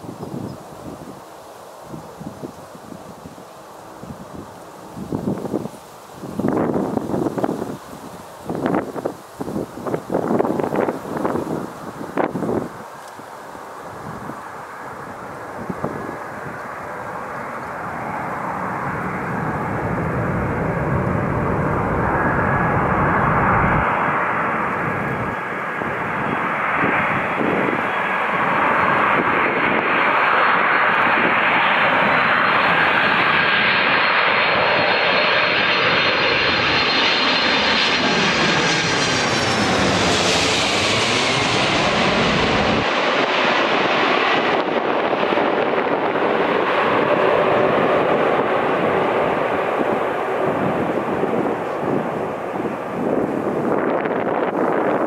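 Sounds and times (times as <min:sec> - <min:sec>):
jet engines on landing approach: 0:00.0 - 0:55.0.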